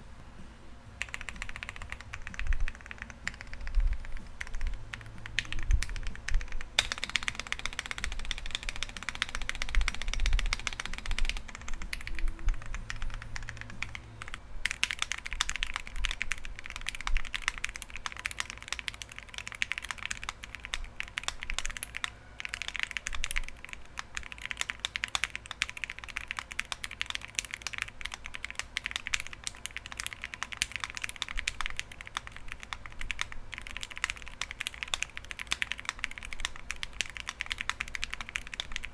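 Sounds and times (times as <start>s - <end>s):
mechanical keyboard key clacks: 1.0s - 38.9s.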